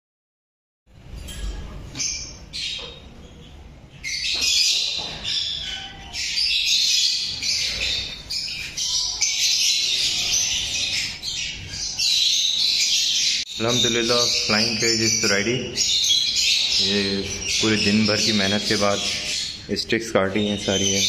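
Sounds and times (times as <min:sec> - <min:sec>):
lovebirds chirping and squawking: 0:01.0 - 0:21.0.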